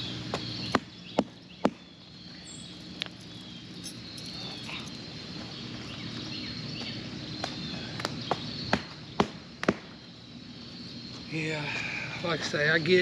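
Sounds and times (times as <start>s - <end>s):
birds chirping: 0.0s - 13.0s
insects trilling: 0.0s - 13.0s
low steady hum: 0.0s - 13.0s.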